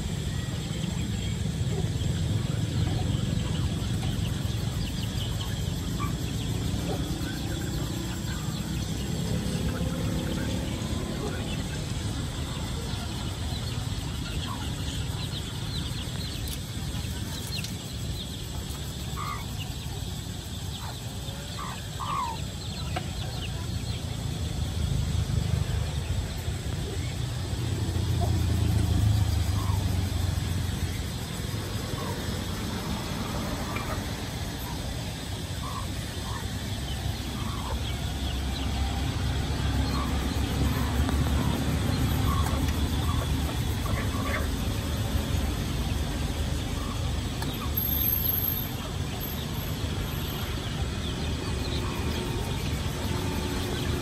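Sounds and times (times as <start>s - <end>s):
bird calls: 0.0s - 54.0s
faint voices: 0.0s - 54.0s
low street rumble: 0.0s - 54.0s.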